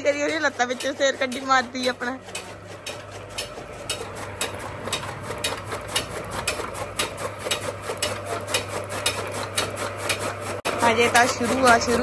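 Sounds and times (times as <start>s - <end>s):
chaff cutter blades chopping: 0.0s - 12.0s.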